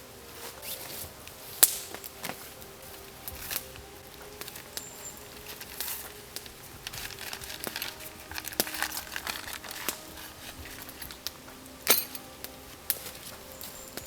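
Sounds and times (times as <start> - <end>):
crinkling and crackling: 0.0 - 14.0.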